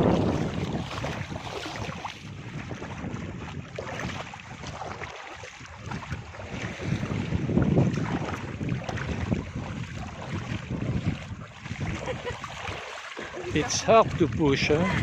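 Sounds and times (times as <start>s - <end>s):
breaking sea waves: 0.0s - 15.0s
wind buffeting microphone: 0.0s - 15.0s.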